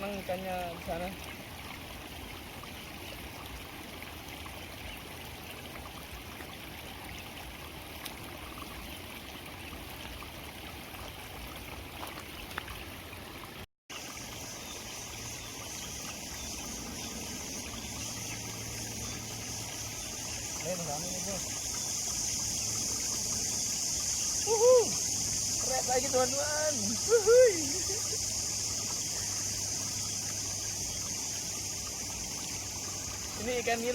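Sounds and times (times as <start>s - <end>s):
water running from outflow: 0.0s - 33.9s.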